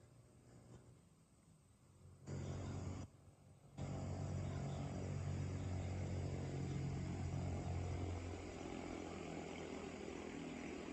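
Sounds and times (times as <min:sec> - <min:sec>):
low engine drone: 0:02.0 - 0:10.9.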